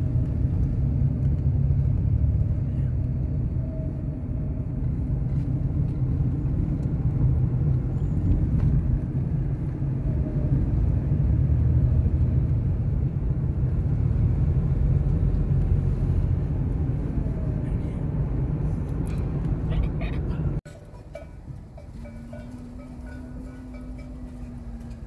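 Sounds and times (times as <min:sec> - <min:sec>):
vehicle driving on road: 0:00.0 - 0:25.0.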